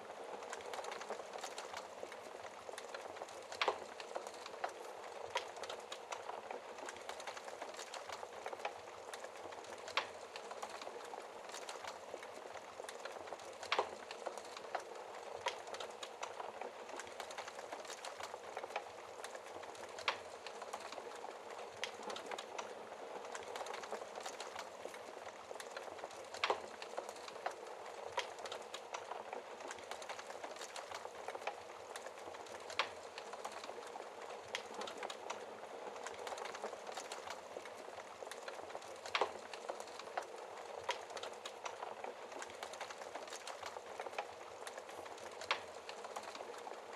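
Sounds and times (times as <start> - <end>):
fire hissing and crackling: 0.0 - 46.9.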